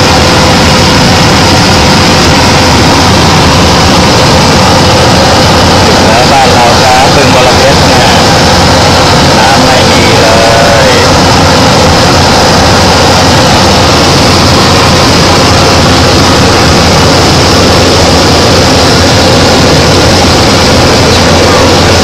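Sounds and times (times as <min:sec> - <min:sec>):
propeller aircraft engine droning: 0:00.0 - 0:22.0.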